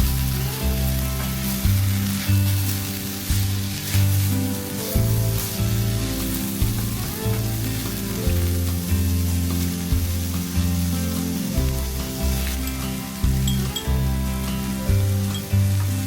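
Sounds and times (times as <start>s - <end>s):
background music with bass: 0.0s - 16.0s
food sizzling in a pan: 0.0s - 16.0s.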